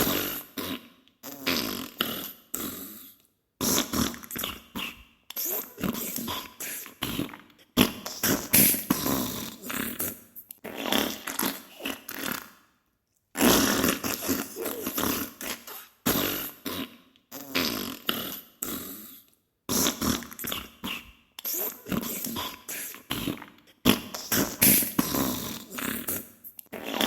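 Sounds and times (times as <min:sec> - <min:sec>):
crackly farting bursts: 0:00.0 - 0:12.7, 0:13.3 - 0:27.0.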